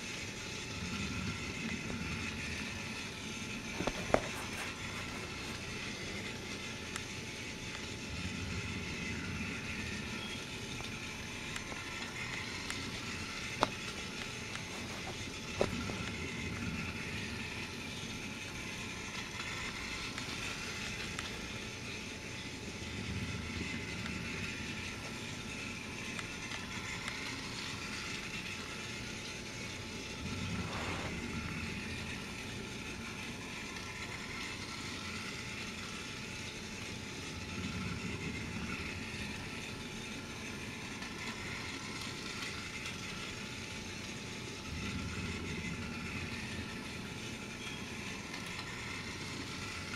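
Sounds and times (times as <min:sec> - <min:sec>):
toy train motor whirring: 0:00.0 - 0:49.9.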